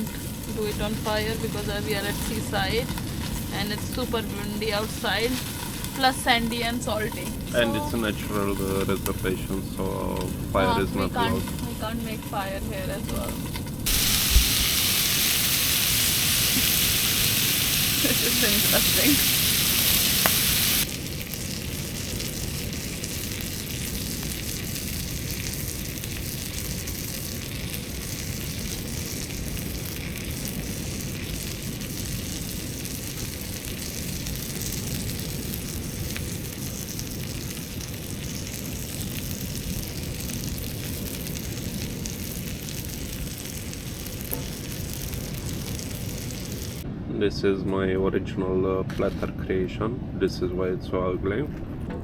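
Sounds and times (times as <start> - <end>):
food sizzling in a pan: 0.0 - 46.8.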